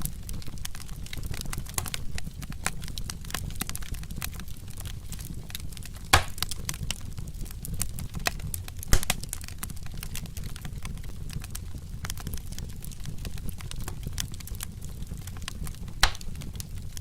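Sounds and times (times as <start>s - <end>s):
wood fire crackling: 0.0s - 17.0s
loud fire pops: 0.2s - 17.0s.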